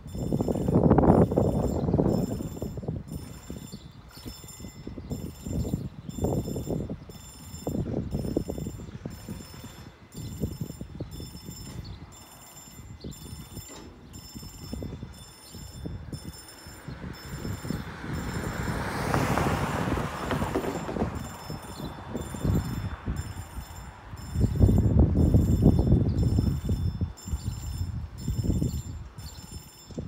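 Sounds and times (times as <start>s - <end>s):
crossing warning bell ringing: 0.0s - 30.0s
wind buffeting microphone: 0.0s - 30.0s.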